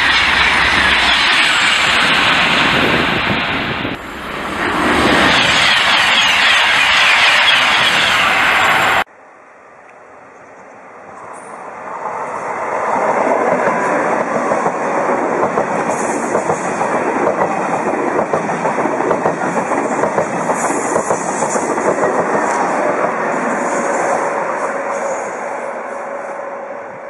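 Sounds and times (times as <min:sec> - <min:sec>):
high-speed train rushing past: 0:00.0 - 0:27.0.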